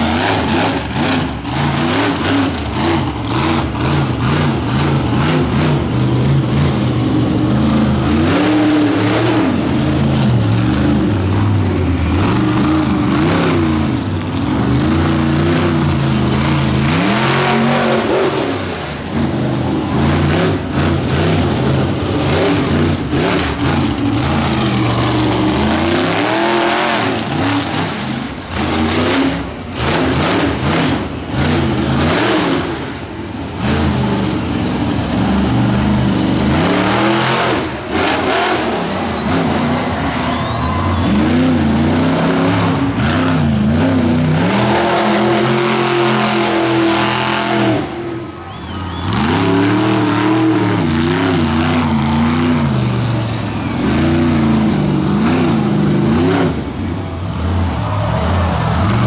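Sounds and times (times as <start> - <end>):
monster truck engine revving: 0.0 - 59.0.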